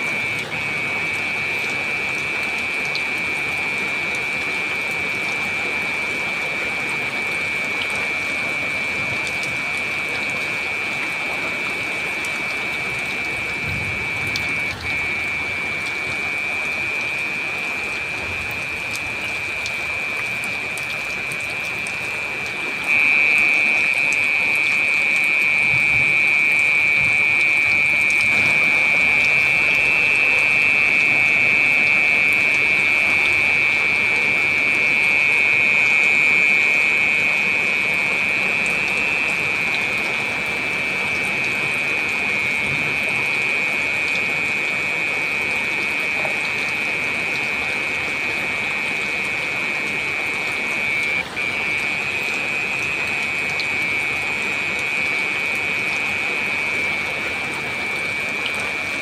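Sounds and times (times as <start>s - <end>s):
heavy rain: 0.0s - 59.0s
high-pitched drone: 0.0s - 59.0s.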